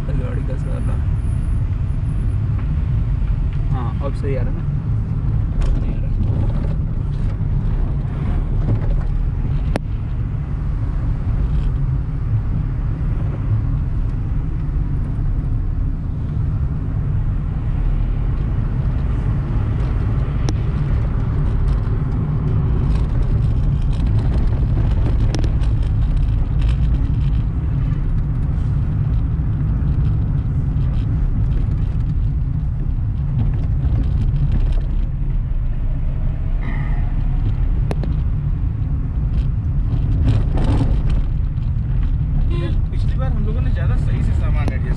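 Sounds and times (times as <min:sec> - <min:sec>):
engine and tyre rumble: 0:00.0 - 0:44.9.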